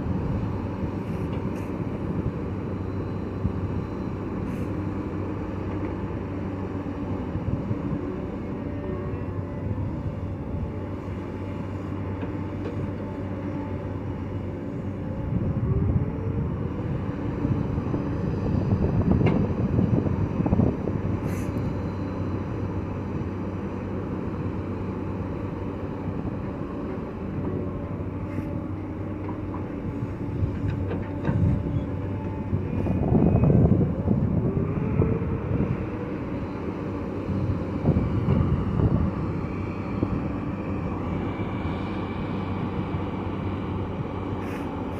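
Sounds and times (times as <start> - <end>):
earthmoving machinery diesel engine: 0.0 - 44.9.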